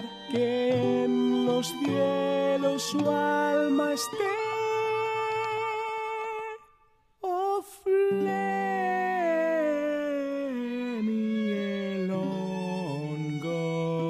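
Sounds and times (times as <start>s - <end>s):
slow wordless melody: 0.0s - 14.0s.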